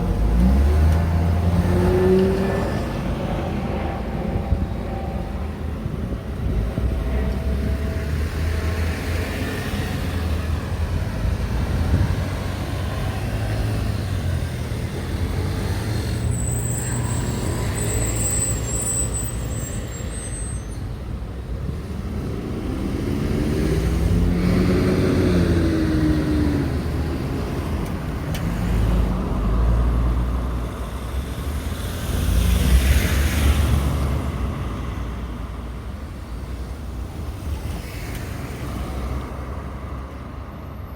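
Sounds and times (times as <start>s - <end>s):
road traffic passing: 0.0s - 40.9s.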